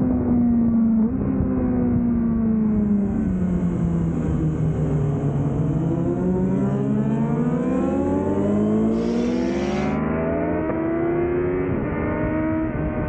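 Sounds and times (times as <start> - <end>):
motorcycle engine accelerating hard: 0.0 - 13.0.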